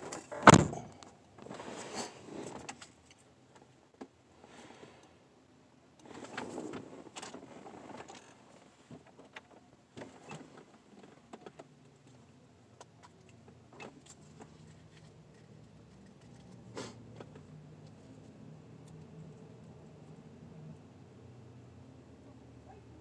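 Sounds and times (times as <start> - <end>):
faint street ambience: 0.0 - 23.0
low steady hum: 0.0 - 23.0.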